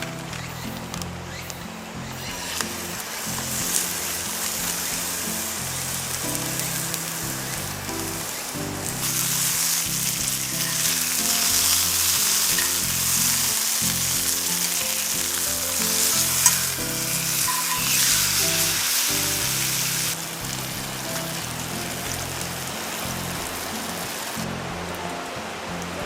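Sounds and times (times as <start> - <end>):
light background music: 0.0 - 26.0
chicken sizzling in a skillet: 2.5 - 24.5.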